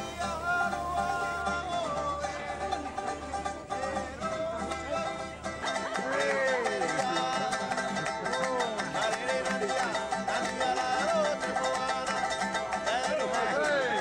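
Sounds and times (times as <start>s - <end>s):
person singing: 0.0s - 14.0s
ukulele strumming chords: 0.0s - 14.0s.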